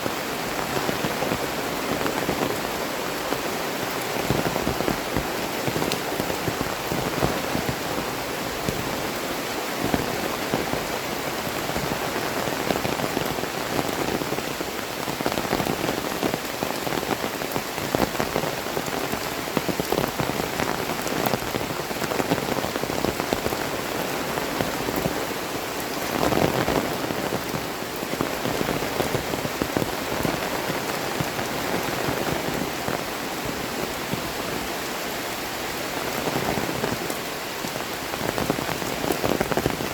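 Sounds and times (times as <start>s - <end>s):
heavy rain patter: 0.0s - 39.9s.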